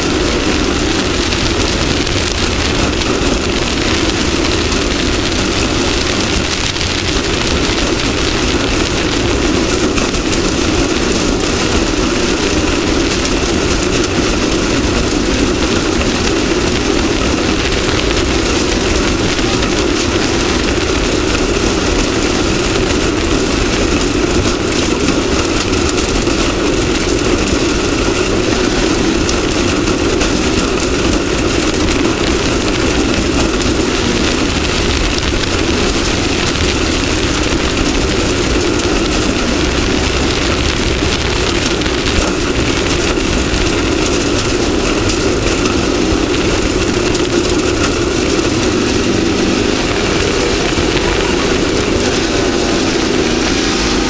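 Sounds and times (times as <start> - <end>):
off-road vehicle engine drone: 0.0 - 54.0
rough road noise: 0.0 - 54.0.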